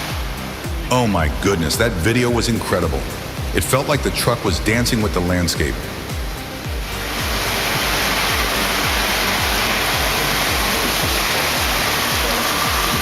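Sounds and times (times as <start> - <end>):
loud rushing noise: 0.0 - 13.0
music with low beat: 0.0 - 13.0.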